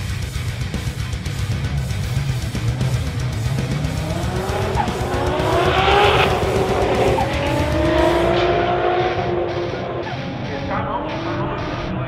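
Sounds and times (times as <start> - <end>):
car engines accelerating: 0.0 - 12.0.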